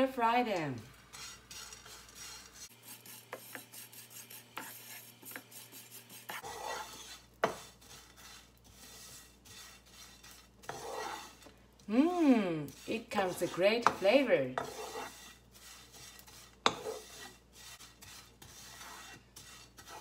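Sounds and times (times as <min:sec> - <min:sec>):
spatula scraping frying pan: 0:00.0 - 0:20.0
spatula tapping pan: 0:01.0 - 0:11.6, 0:12.6 - 0:20.0.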